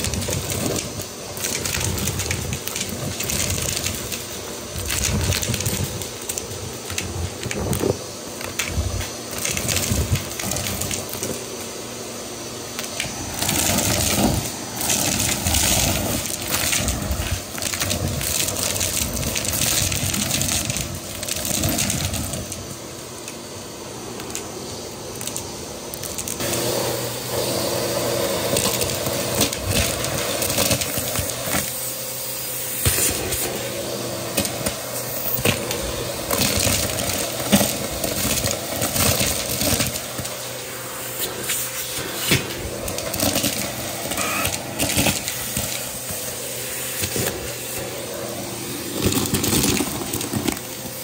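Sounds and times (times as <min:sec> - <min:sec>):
small objects clattering up tube: 0:00.0 - 0:11.4, 0:12.8 - 0:22.7, 0:25.1 - 0:26.6, 0:28.5 - 0:31.9, 0:34.3 - 0:40.5, 0:41.1 - 0:51.0
vacuum cleaner running: 0:00.0 - 0:51.0.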